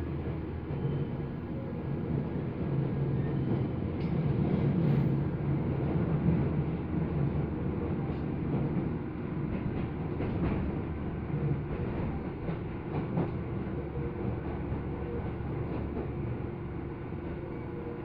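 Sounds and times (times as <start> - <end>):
train rumble from inside car: 0.0 - 18.0.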